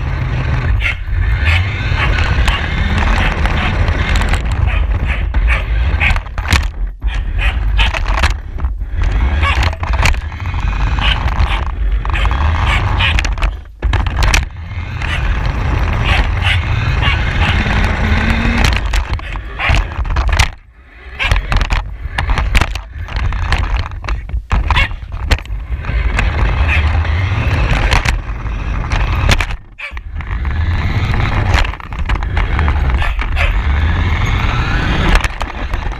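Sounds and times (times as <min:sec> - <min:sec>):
knocks and rattles: 0:00.0 - 0:35.9
toy car wheels rumbling: 0:00.0 - 0:35.9.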